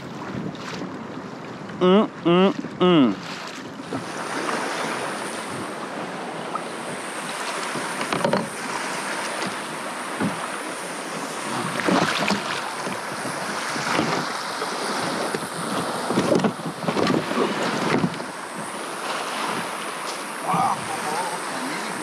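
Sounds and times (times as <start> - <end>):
wind noise on microphone: 0.0 - 18.8
water lapping against a kayak hull: 0.0 - 22.0
water splashes: 0.0 - 22.0.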